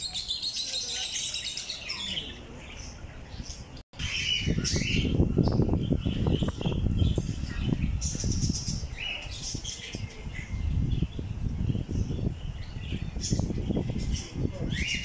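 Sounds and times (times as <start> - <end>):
aviary birds chirping: 0.0 - 15.0.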